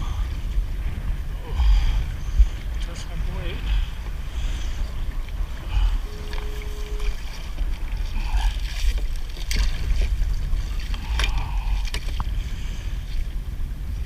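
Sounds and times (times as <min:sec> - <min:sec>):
water splashing: 0:00.0 - 0:13.3
wind rumble on microphone: 0:00.0 - 0:14.0.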